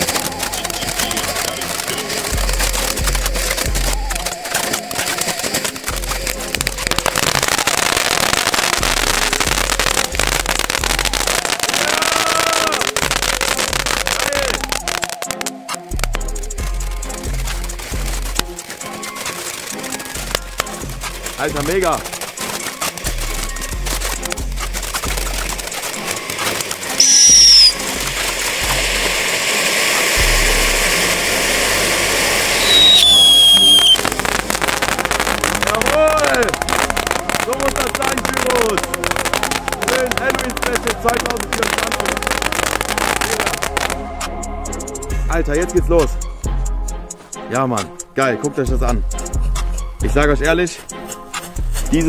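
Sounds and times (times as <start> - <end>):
background music: 0.0 - 52.0
fireworks crackling: 0.0 - 52.0.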